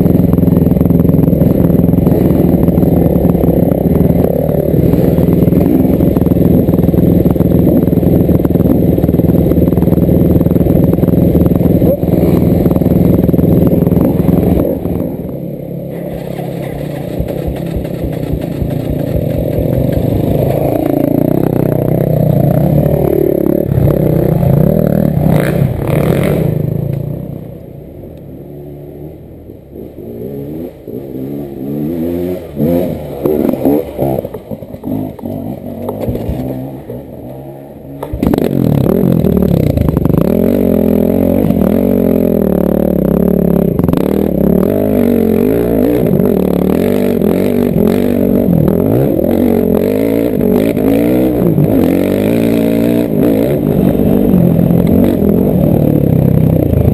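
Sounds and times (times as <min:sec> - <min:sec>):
dirt bike engine revving: 0:00.0 - 0:27.5, 0:28.4 - 0:56.9.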